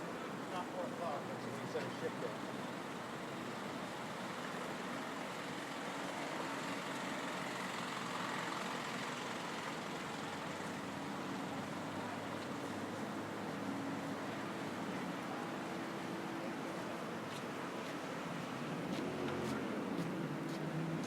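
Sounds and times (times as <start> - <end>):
passing vehicles: 0.0 - 21.0.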